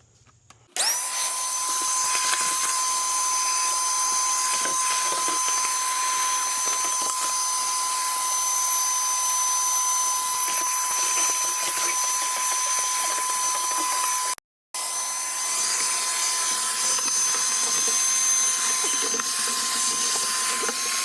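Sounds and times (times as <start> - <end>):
vacuum motor whining: 0.7 - 21.0.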